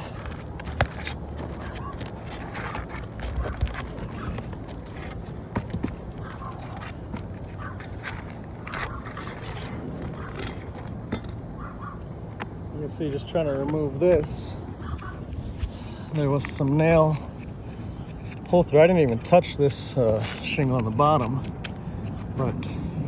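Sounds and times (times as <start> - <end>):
roof shingle scraping and snapping: 0.0 - 22.6.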